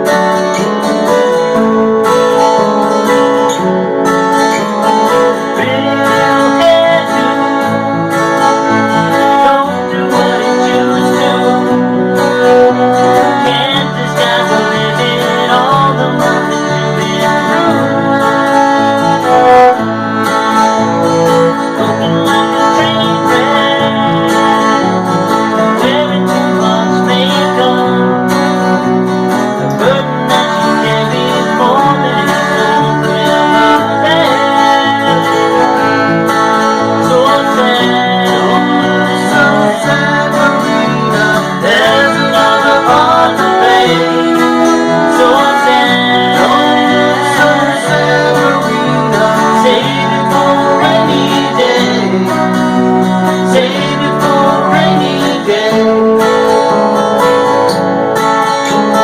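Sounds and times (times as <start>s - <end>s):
acoustic guitars strumming: 0.0s - 59.0s
cello: 0.0s - 59.0s.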